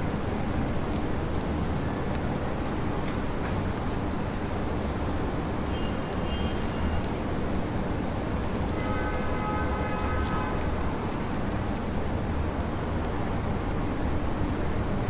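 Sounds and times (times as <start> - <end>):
city traffic rumble: 0.0 - 15.0
steady rain: 0.0 - 15.0.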